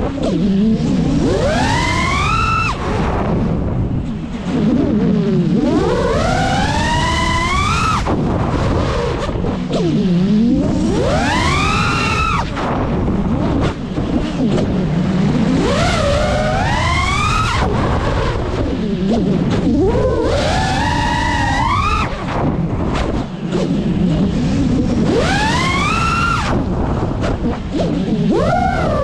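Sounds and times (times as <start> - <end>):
drone motors whining: 0.0 - 29.0
wind rumble: 0.0 - 29.0.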